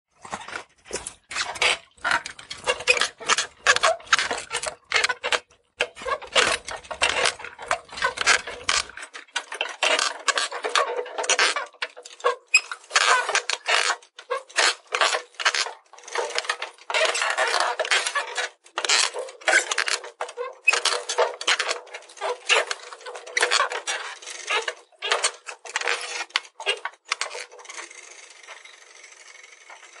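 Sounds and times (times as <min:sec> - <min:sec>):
bicycle squeaking and rattling: 0:00.3 - 0:30.0.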